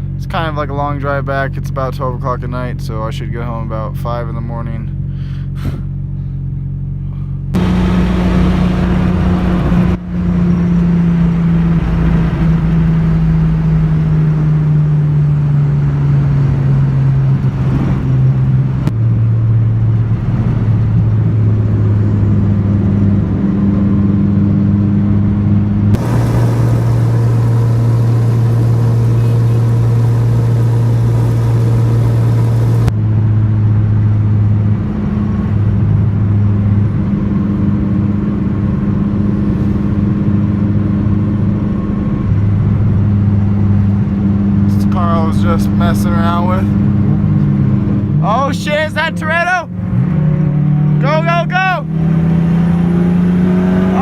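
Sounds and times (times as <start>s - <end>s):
car engine droning while driving: 0.0s - 54.0s.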